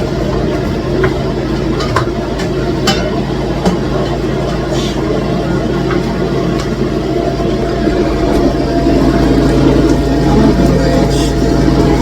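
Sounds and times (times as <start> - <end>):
stew boiling and bubbling: 0.0 - 12.0.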